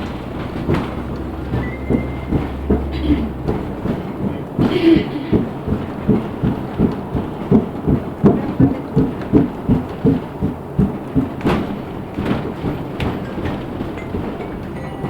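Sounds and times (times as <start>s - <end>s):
low rhythmic thumping in bus: 0.0s - 15.0s.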